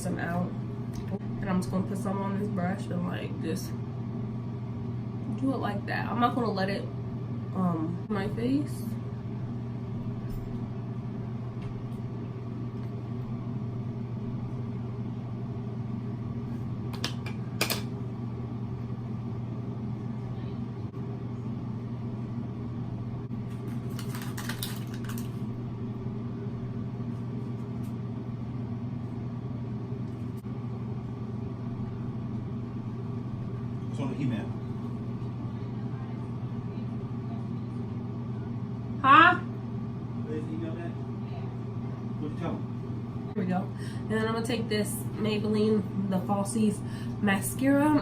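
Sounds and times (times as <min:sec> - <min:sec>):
low mechanical hum: 0:00.0 - 0:48.0.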